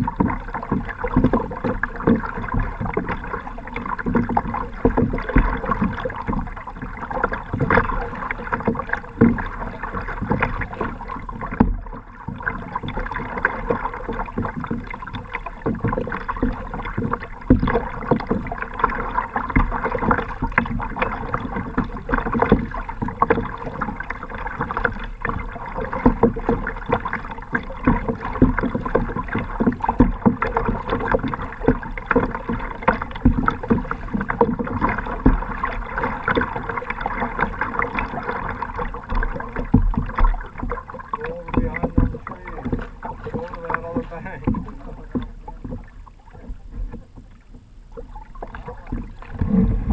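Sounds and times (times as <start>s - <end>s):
water splashing against kayak hull: 0.0s - 49.9s.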